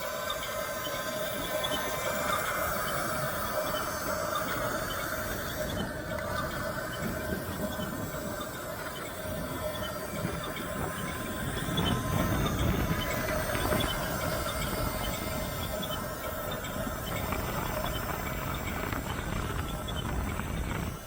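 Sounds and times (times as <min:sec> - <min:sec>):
light ticking of tracks: 0:00.0 - 0:21.0
toy bulldozer whining: 0:00.0 - 0:21.0.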